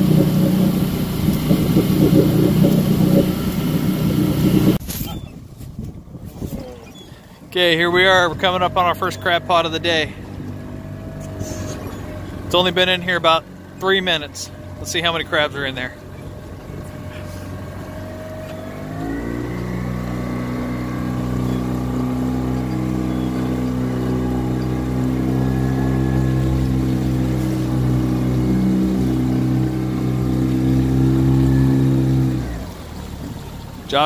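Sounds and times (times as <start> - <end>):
motorboat engine: 0.0 - 34.0.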